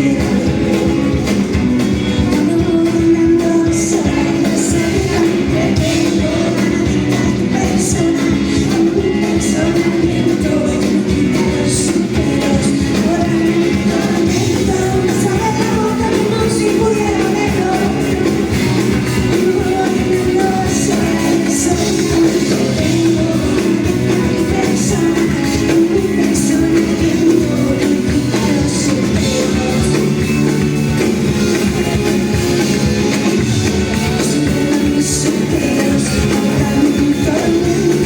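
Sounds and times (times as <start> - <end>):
woman singing: 0.0 - 32.0, 32.6 - 38.0
live rock band playing: 0.0 - 38.0.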